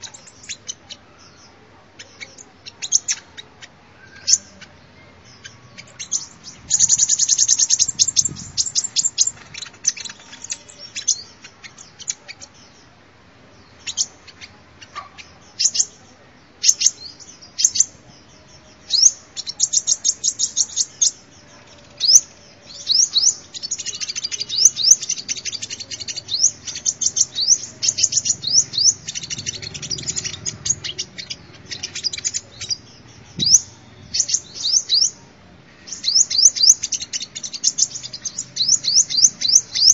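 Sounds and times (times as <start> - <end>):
sunbird trills and chips: 0.0 - 12.8, 16.6 - 39.9.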